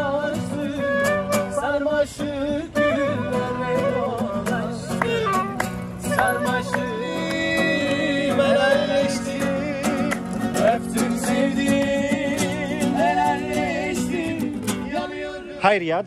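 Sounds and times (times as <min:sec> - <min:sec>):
song with singing voice: 0:00.0 - 0:15.6.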